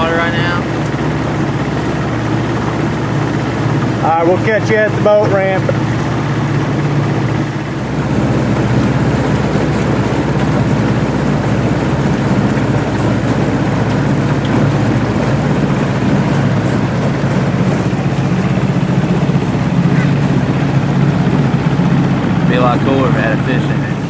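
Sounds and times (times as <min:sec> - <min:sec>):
boat motor running: 0:00.0 - 0:24.0
water noise: 0:00.0 - 0:24.0.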